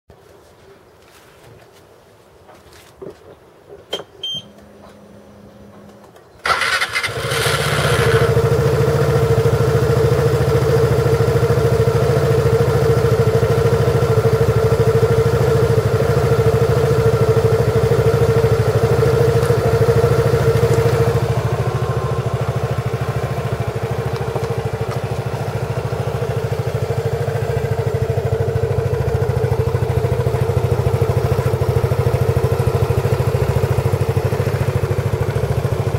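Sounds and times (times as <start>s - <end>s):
scooter engine starting and idling: 4.0s - 35.9s.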